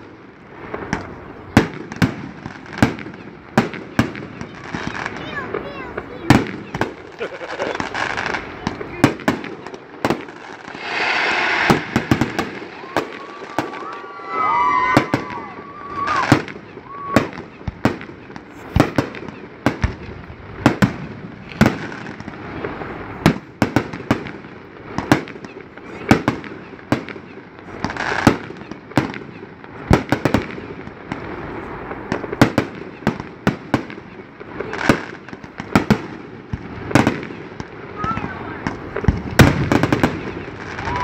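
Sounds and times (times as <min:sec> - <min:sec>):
fireworks bursting with bangs: 0:00.0 - 0:41.0.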